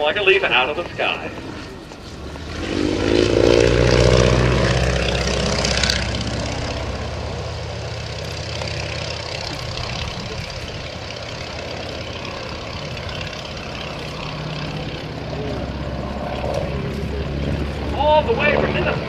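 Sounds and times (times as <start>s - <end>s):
biplane radial engine drone: 0.0s - 19.0s.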